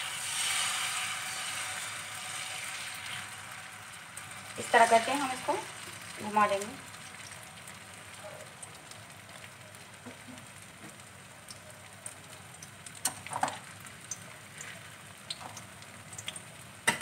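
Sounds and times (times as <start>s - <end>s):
batter sizzling in a frying pan: 0.0s - 17.0s.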